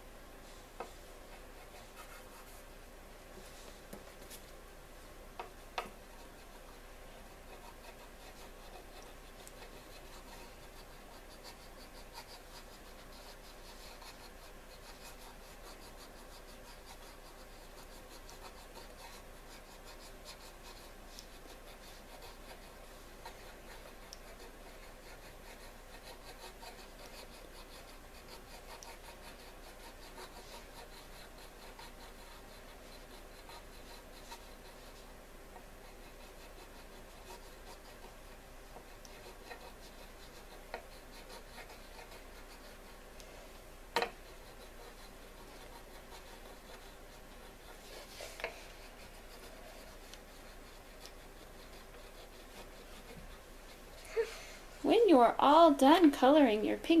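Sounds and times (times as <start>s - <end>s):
crayon scratching on paper: 0.8s - 2.6s, 5.8s - 43.2s, 44.0s - 57.0s.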